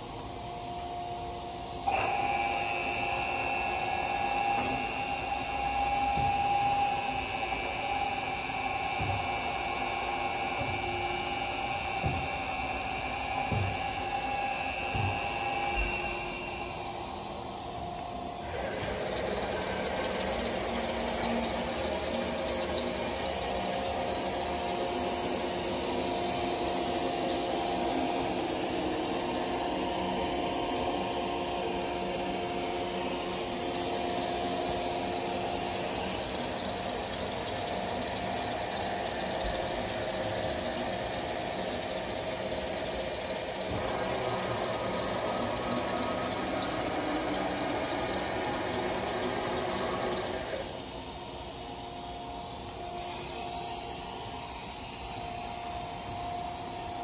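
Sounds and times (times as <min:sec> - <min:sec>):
drilling machine humming: 0:00.0 - 0:57.0.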